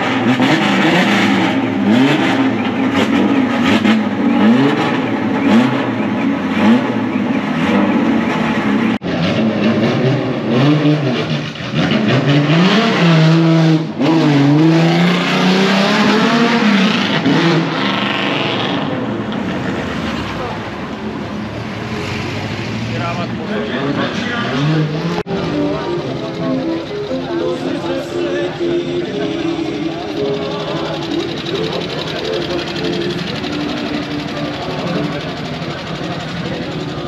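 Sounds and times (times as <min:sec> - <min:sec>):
race car engine revving: 0:00.0 - 0:37.0.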